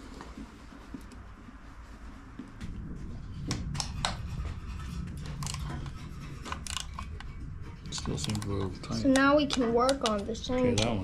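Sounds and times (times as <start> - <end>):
low rumble: 0.4 - 11.0.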